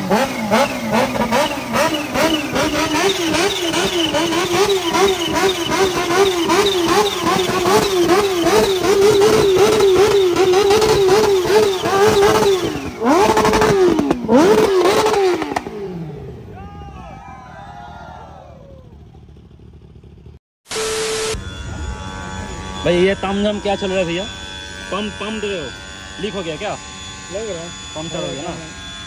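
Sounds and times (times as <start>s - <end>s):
motorcycle engine revving: 0.0s - 16.9s, 18.4s - 29.0s.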